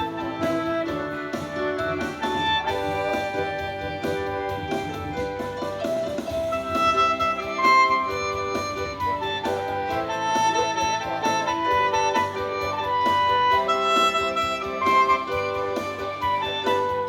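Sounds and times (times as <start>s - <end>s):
live instrumental ensemble music: 0.0s - 17.0s.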